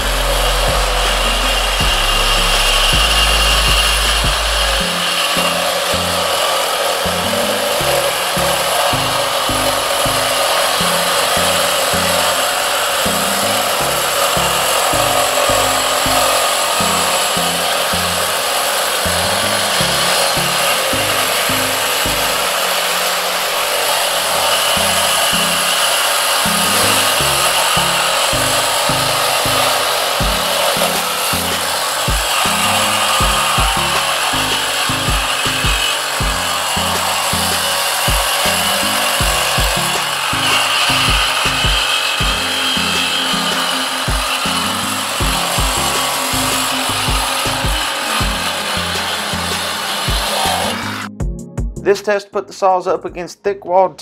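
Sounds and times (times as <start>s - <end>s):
reciprocating saws cutting steel pipe: 0.0s - 51.1s
background music: 0.0s - 54.0s.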